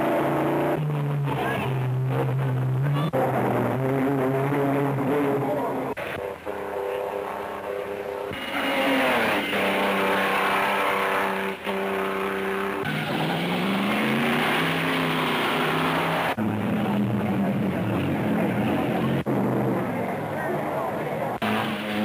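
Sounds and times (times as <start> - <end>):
racing car engines: 0.0 - 22.0.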